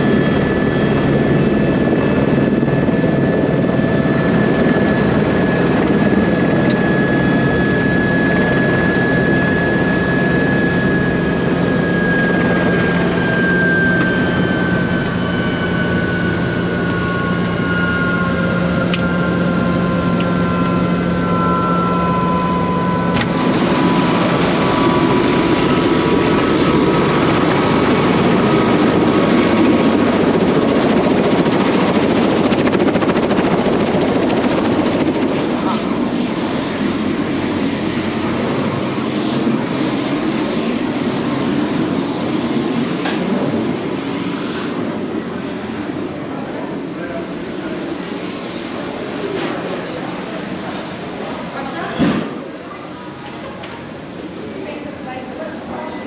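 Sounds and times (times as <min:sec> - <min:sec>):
helicopter turbine and rotor: 0:00.0 - 0:56.0.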